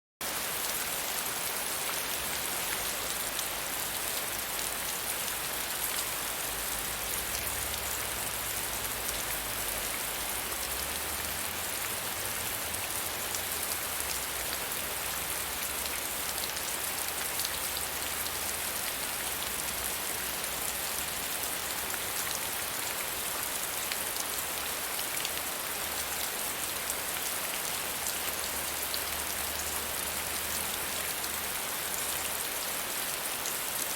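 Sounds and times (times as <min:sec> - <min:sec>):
steady rain: 0:00.2 - 0:33.9.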